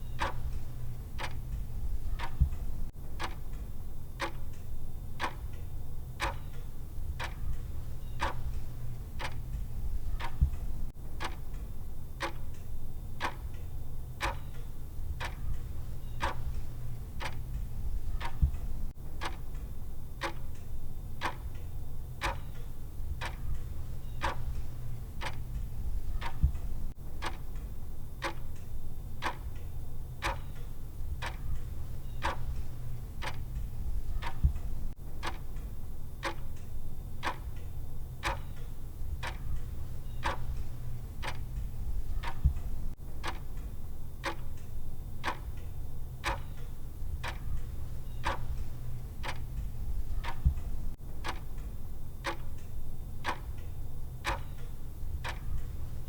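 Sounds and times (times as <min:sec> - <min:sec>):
low steady hum: 0:00.0 - 0:56.0
timer ticking: 0:00.0 - 0:56.0.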